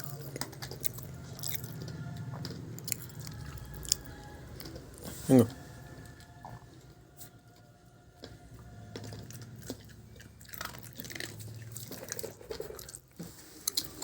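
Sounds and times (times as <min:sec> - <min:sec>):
dog chewing food: 0:00.0 - 0:14.0.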